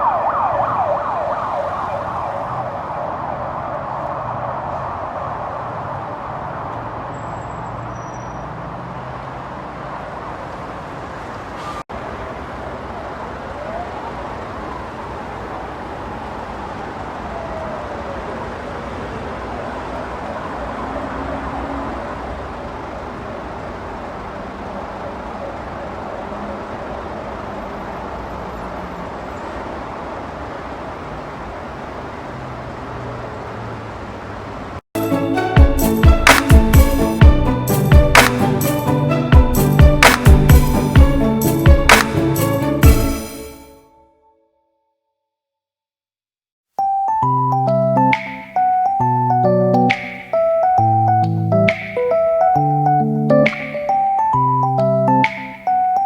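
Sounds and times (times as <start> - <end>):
road and traffic noise: 0.0 - 43.9, 46.8 - 56.0
emergency vehicle siren: 0.0 - 44.0, 47.2 - 56.0.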